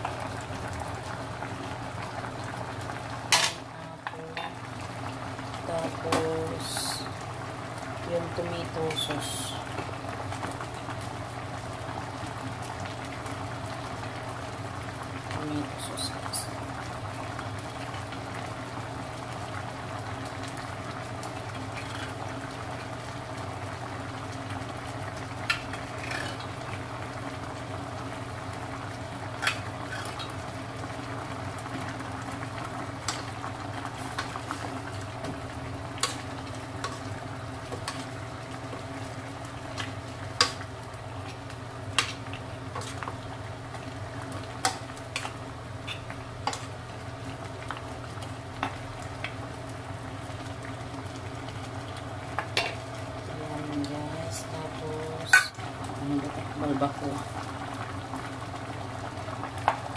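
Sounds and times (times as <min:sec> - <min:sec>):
stew boiling in a pot: 0:00.0 - 0:59.9.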